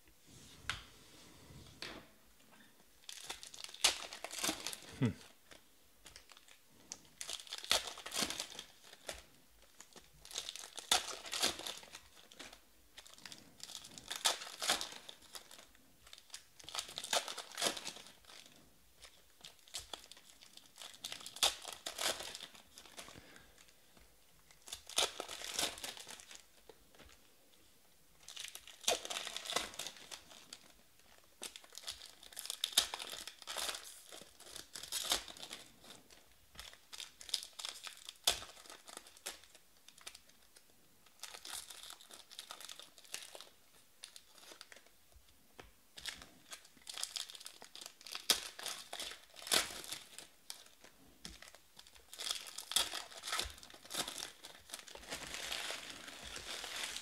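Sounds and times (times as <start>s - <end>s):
card pack wrappers crinkling and tearing: 3.0s - 27.3s, 28.2s - 45.0s, 45.6s - 57.0s.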